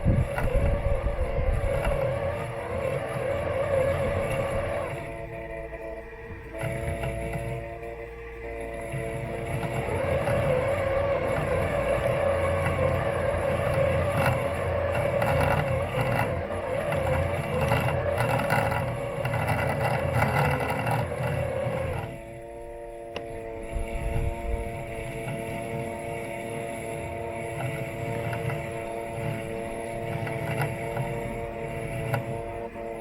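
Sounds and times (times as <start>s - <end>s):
lawn mower motor whine: 0.0s - 33.0s
low rumble and rattle: 0.0s - 33.0s.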